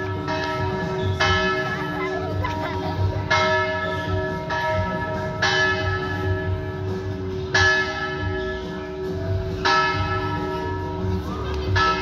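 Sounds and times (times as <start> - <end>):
church bells ringing: 0.0 - 12.0.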